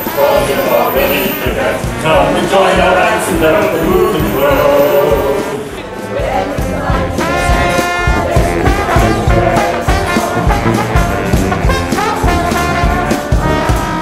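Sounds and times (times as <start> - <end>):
upbeat brass music with beat: 0.0 - 14.0.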